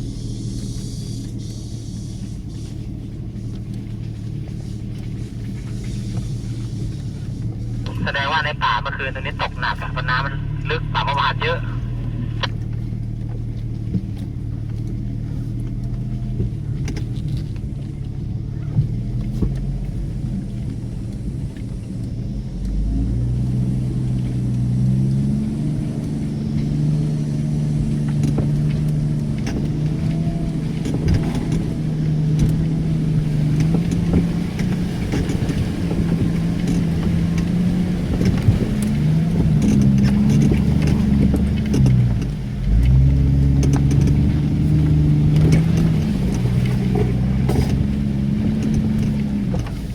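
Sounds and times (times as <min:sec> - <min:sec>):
off-road vehicle engine under load: 0:00.0 - 0:49.9.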